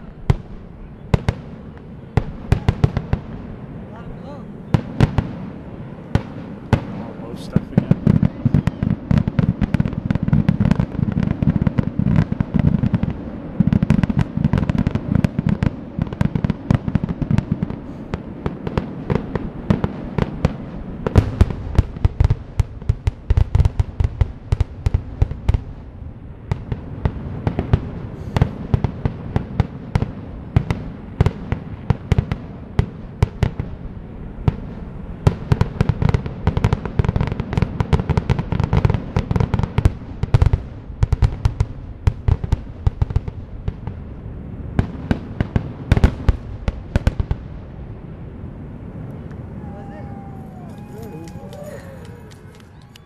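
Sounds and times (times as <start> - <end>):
fireworks bangs and cracks: 0.0 - 3.8, 4.7 - 47.8.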